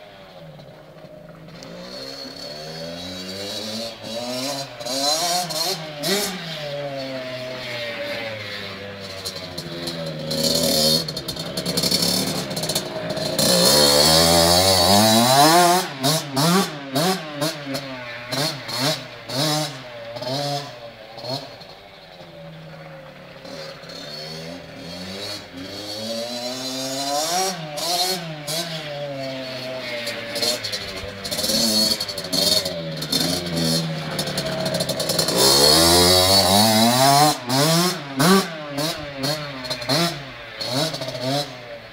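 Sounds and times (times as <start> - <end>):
dirt bike engine revving: 1.4 - 41.9.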